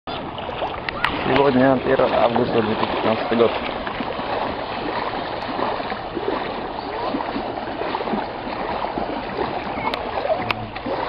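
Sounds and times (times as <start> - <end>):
children splashing in shallow water: 0.1 - 11.0.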